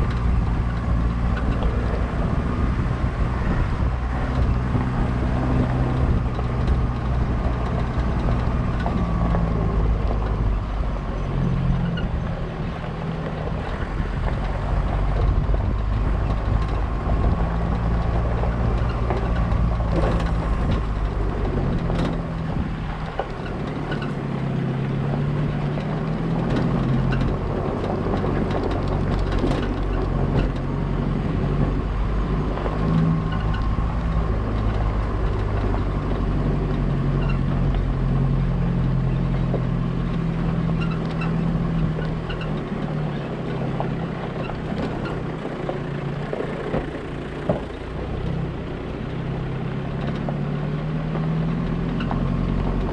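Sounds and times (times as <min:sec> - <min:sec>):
road noise: 0:00.0 - 0:52.9
vehicle engine running: 0:00.0 - 0:52.9.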